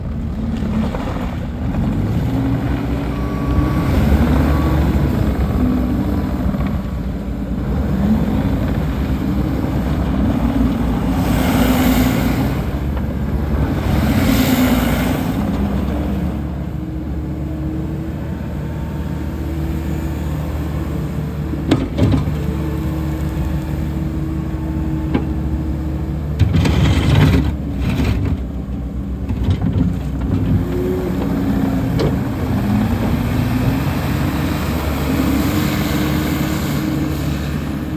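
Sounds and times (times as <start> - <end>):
diesel loader engine running: 0.0 - 37.9.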